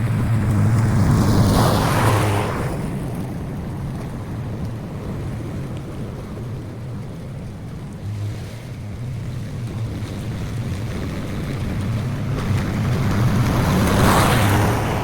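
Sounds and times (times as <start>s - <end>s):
lawn mower engine running: 0.0s - 5.1s, 6.1s - 15.0s
noisy rush: 0.0s - 15.0s.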